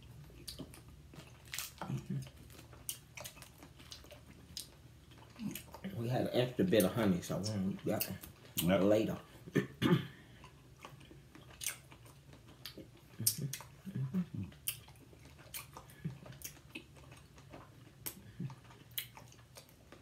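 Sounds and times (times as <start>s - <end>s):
chewing candy: 0.0s - 8.9s, 10.3s - 20.0s.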